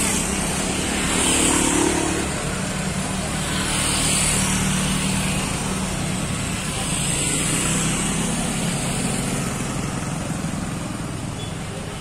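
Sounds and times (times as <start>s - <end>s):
car and motorcycle engines: 0.0s - 12.0s.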